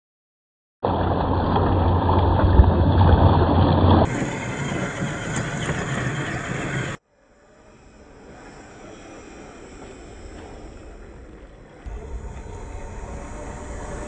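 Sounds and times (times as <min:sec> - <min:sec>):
electric motor and gears running: 0:01.0 - 0:14.0.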